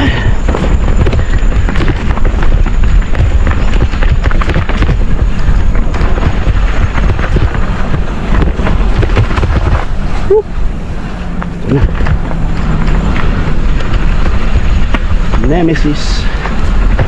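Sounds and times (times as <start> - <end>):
bike frame rattling: 0.0 - 17.0
wind on microphone: 0.0 - 17.0.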